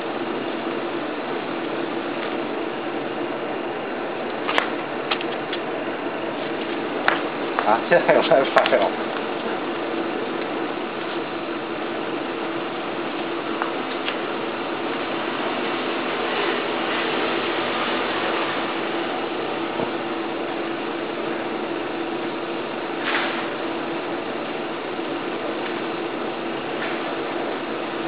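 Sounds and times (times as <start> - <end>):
air blower humming: 0.0 - 28.0.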